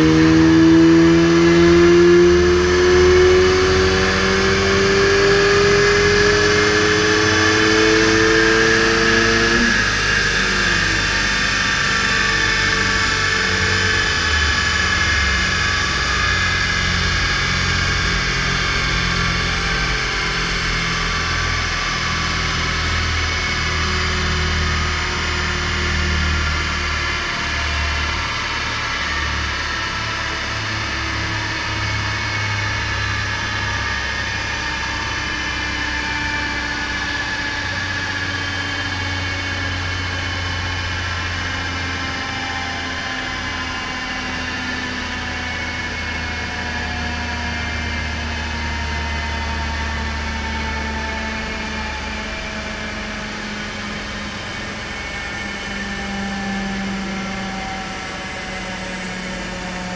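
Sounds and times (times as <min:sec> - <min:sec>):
dyno roller whine: 0:00.0 - 0:59.9
low engine hum: 0:00.0 - 0:59.9.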